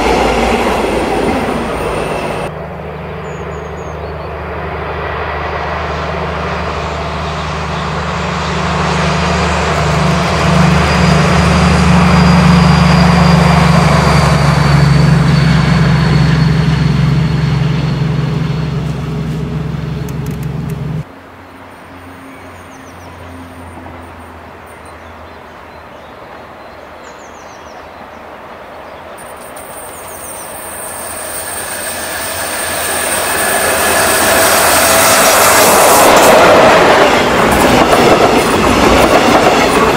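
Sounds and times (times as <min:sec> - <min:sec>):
diesel locomotive engine drone: 0:00.0 - 0:39.9.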